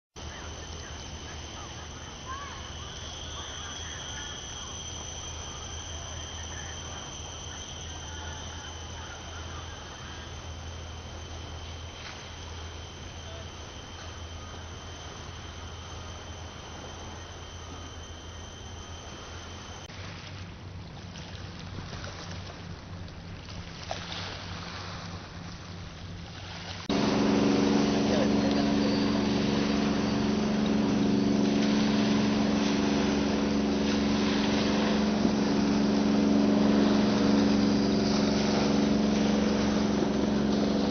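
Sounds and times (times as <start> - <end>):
crickets calling: 0.2 - 19.9, 23.8 - 40.9
faint outdoor noise: 0.2 - 40.9
low steady hum: 0.2 - 40.9.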